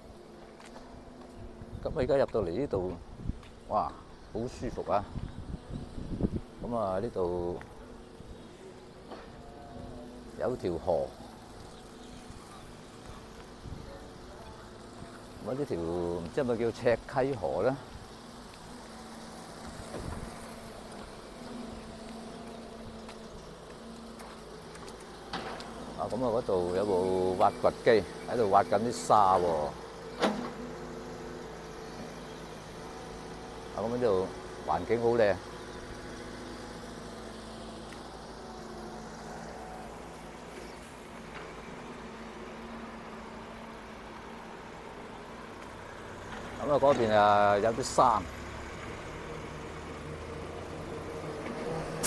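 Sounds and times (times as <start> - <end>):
distant excavator diesel engine: 6.6 - 52.0.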